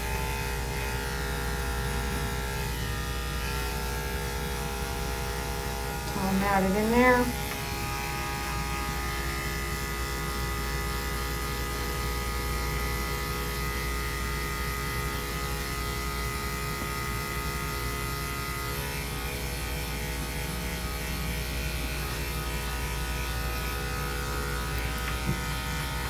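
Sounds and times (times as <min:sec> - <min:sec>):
electric clippers humming: 0:00.0 - 0:26.0.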